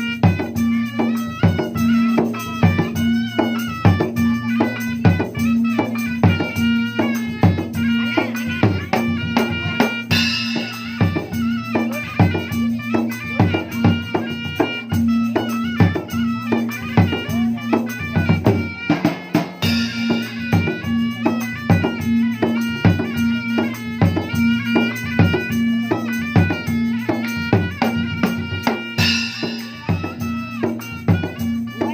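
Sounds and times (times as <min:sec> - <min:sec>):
hand drum rhythm: 0:00.0 - 0:31.9.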